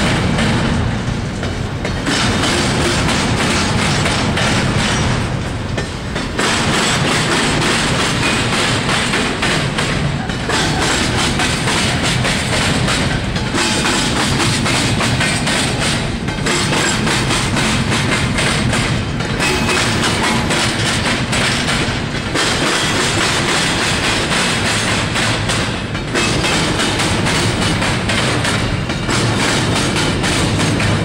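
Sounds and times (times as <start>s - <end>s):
train wheels clattering over rail joints: 0.0s - 31.0s.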